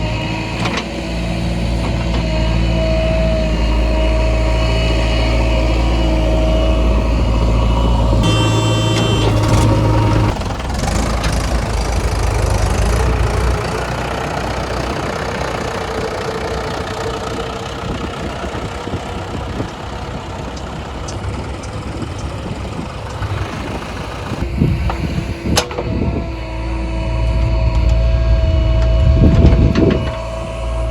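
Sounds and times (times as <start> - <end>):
heavy diesel engine running: 0.0 - 30.9.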